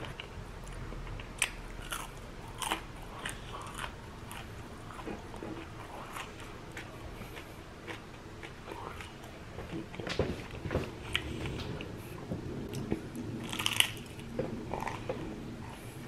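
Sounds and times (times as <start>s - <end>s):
crunchy food being chewed: 0.0s - 15.9s.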